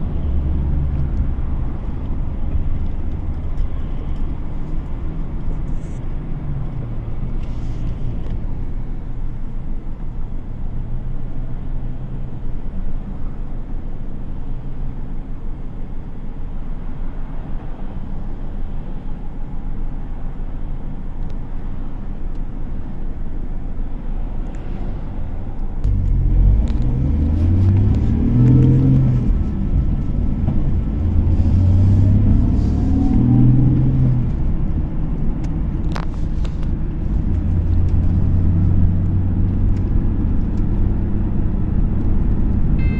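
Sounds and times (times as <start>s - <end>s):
car engine and tyre rumble: 0.0s - 42.9s.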